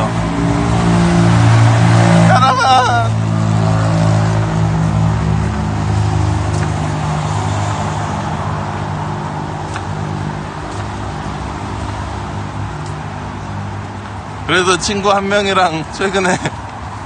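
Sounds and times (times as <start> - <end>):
city street traffic: 0.0 - 17.0
vehicle engine humming: 0.0 - 17.0.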